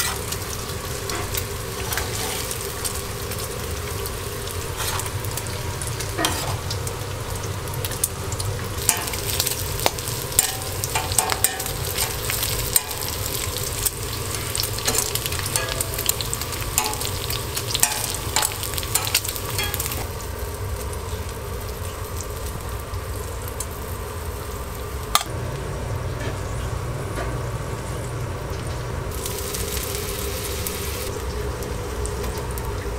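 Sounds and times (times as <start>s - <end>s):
bacon frying and crackling: 0.0s - 32.9s.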